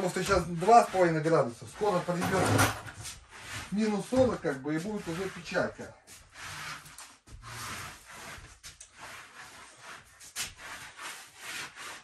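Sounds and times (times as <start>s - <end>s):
rubbing and scraping strokes: 0.0s - 12.0s.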